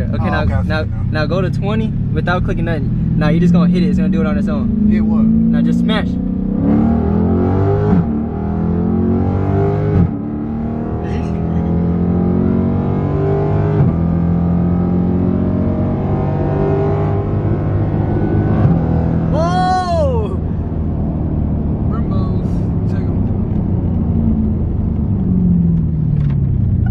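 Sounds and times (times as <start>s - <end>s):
car engine at full throttle: 0.0s - 26.9s.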